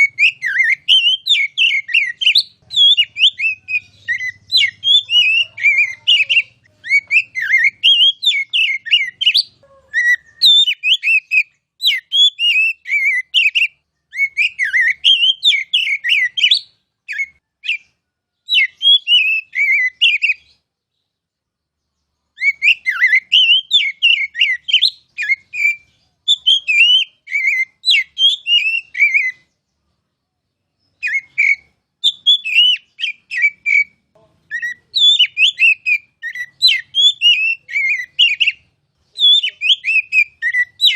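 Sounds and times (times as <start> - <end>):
bird singing whistles and chatter: 0.0 - 20.6, 22.0 - 29.8, 30.7 - 40.9.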